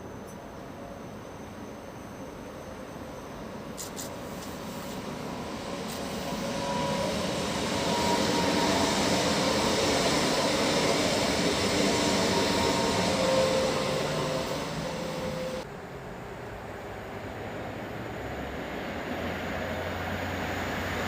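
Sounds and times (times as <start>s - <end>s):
faint whining tones: 0.0s - 17.9s
electric train passing: 0.0s - 21.0s.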